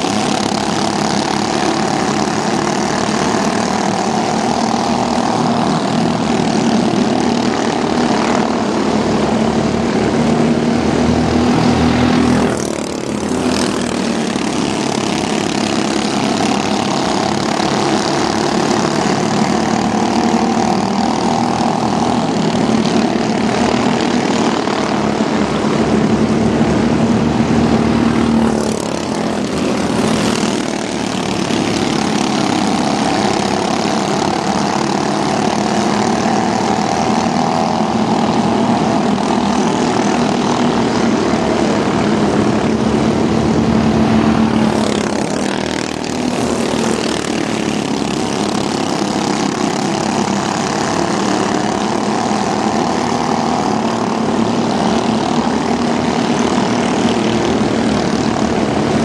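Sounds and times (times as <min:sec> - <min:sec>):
racing truck engines droning: 0:00.0 - 0:59.0.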